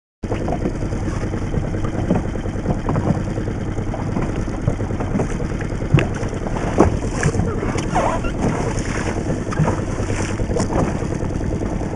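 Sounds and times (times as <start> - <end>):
outboard motor idling: 0.2 - 11.9.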